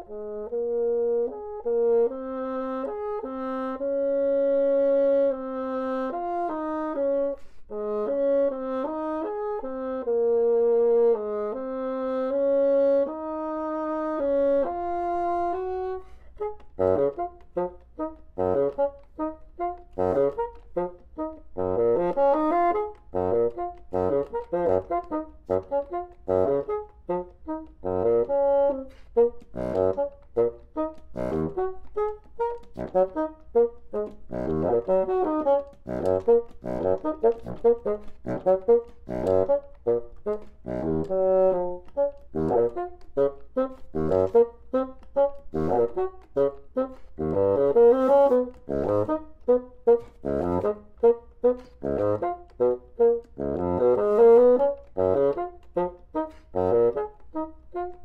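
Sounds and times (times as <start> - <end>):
solo bassoon playing: 0.0 - 58.0.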